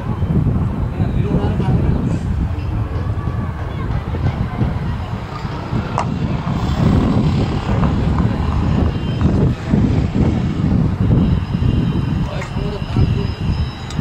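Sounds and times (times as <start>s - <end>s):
loud low rumble: 0.0s - 13.6s.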